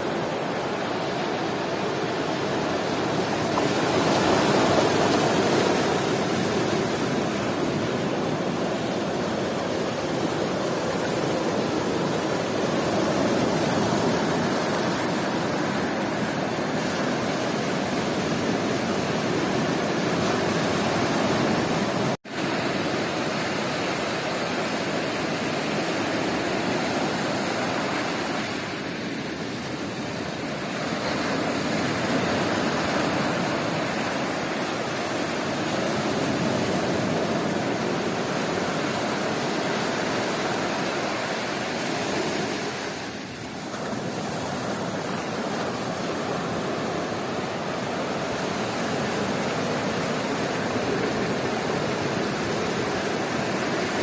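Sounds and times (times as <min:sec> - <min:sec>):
sea waves washing onto beach: 0:00.0 - 0:54.0.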